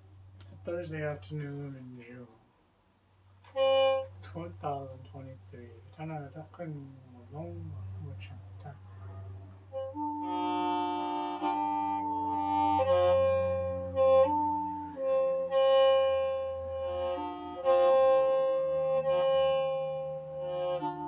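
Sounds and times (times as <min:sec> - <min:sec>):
bamboo mouth organ playing: 0:03.5 - 0:21.0
low steady drone: 0:03.6 - 0:21.0.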